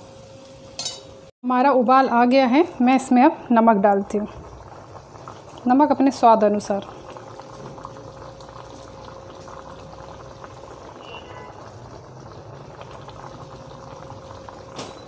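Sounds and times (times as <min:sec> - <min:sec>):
gravy bubbling in a pan: 0:02.7 - 0:15.0.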